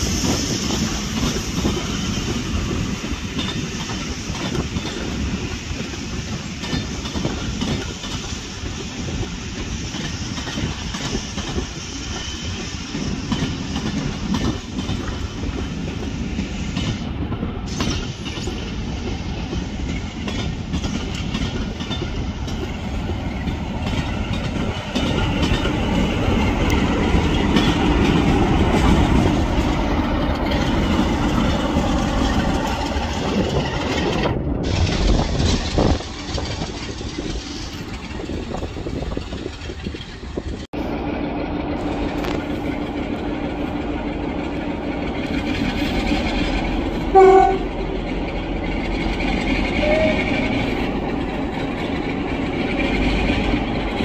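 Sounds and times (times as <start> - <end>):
train wheels clicking over rail joints: 0.0 - 40.7, 41.7 - 54.0.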